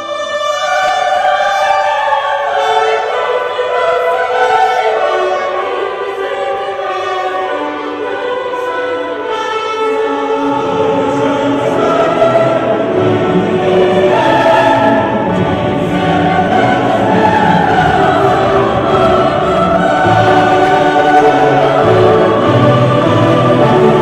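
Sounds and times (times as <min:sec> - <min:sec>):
choir singing long held notes: 0:00.0 - 0:24.0.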